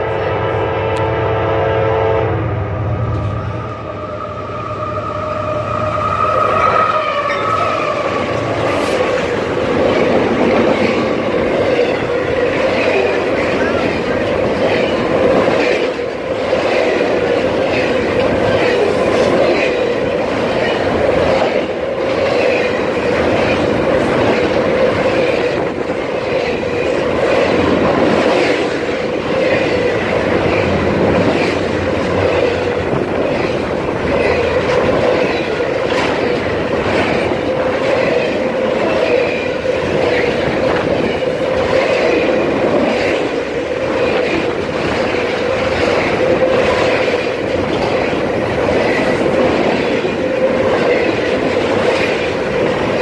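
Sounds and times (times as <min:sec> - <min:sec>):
steel wheels on rails: 0:03.0 - 0:53.0
wheels clicking over rail joints: 0:06.0 - 0:53.0.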